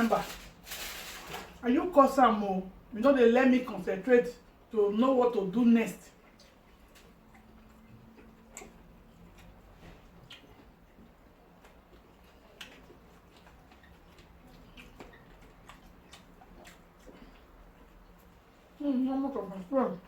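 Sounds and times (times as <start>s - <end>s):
faint room noise: 0.0s - 20.0s.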